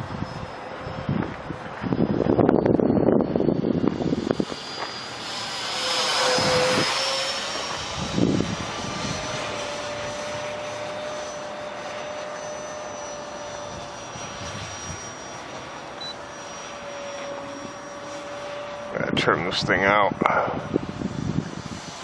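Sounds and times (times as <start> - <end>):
electric ducted fan whine: 0.0 - 22.0.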